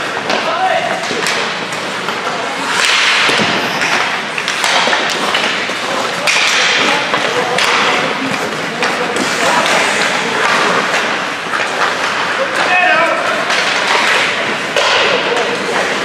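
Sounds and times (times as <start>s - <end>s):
hockey sticks and puck clacking: 0.0s - 16.0s
skate blades scraping ice: 0.0s - 16.0s.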